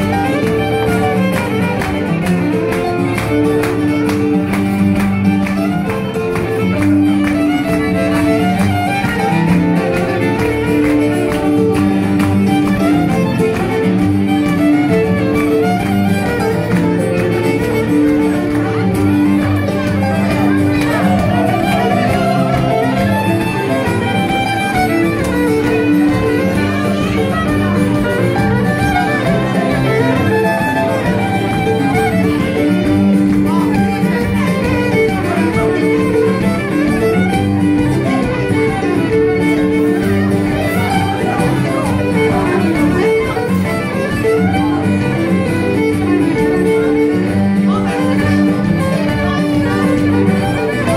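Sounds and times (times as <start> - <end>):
acoustic guitar accompaniment: 0.0 - 50.9
fiddle playing folk tune: 0.0 - 50.9.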